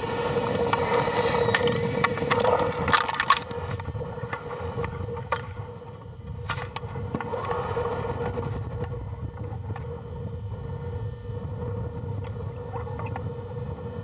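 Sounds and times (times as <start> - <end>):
steady hum: 0.0 - 14.0
wind on microphone: 0.0 - 14.0.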